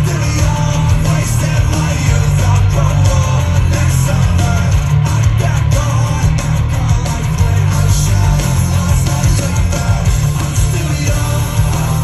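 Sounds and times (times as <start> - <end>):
booming bass: 0.0 - 12.0
electric guitar: 0.0 - 12.0
live rock band playing: 0.0 - 12.0.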